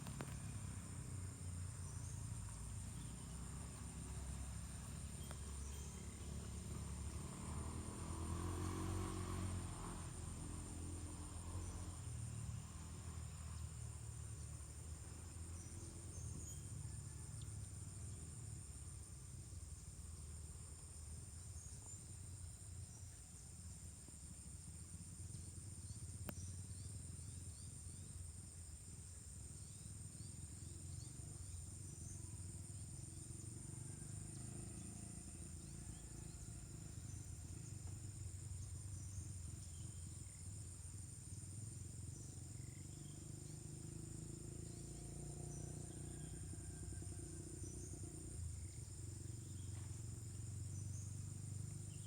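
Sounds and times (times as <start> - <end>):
insect chorus drone: 0.0 - 52.0.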